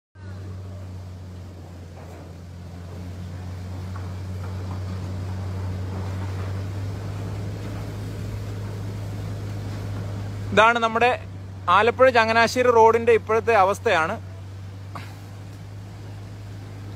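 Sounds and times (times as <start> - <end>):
diesel engine droning: 0.2 - 16.9
floodwater rushing around vehicle: 0.2 - 16.9.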